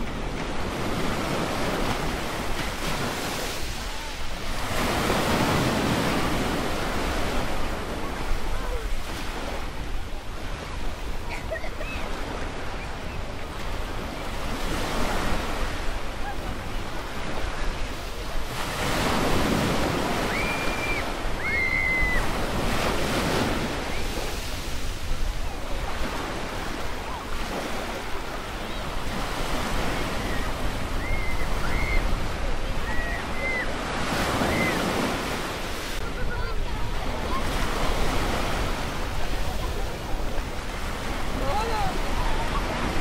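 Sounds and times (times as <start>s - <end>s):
surf waves breaking: 0.0s - 43.0s.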